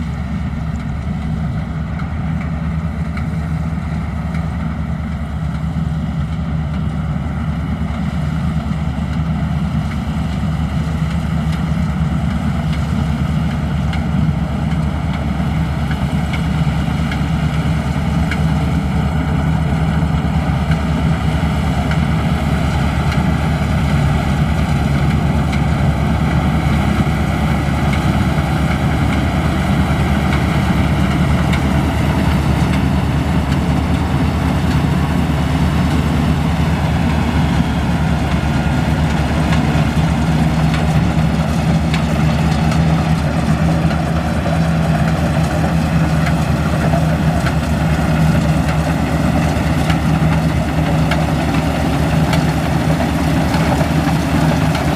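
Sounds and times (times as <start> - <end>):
combine harvester engine humming: 0.0 - 54.9.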